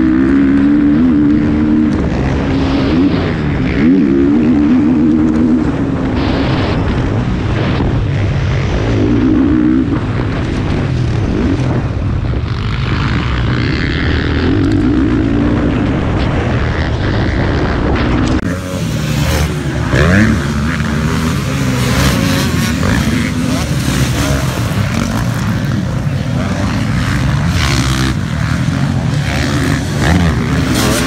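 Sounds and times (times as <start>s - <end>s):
motocross bike engine revving: 0.0s - 31.0s
wind noise: 0.0s - 31.0s.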